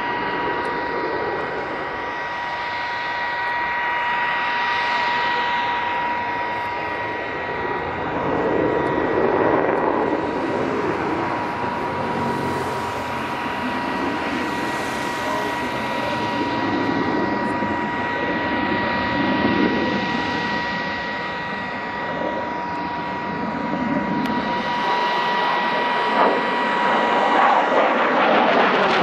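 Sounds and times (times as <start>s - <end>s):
jet flying overhead: 0.0s - 29.0s.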